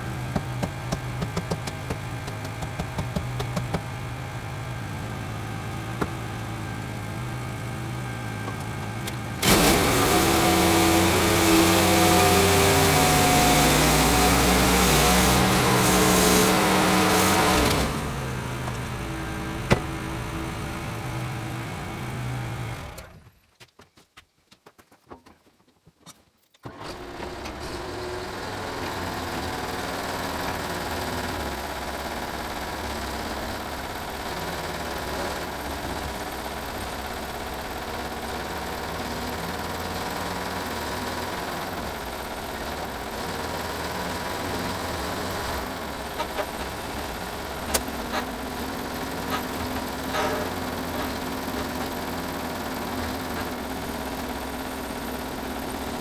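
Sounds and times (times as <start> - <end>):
small gasoline engine running: 0.0 - 23.2, 26.7 - 56.0.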